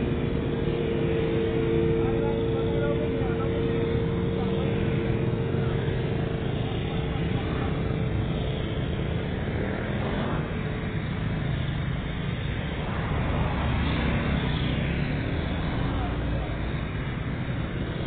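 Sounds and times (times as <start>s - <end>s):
motorcycles and scooters passing: 0.0s - 18.0s.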